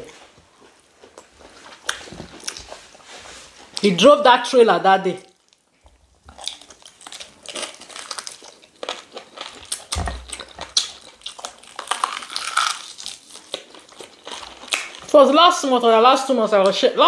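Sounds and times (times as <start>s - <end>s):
people chewing food: 0.0s - 3.9s, 5.2s - 15.3s.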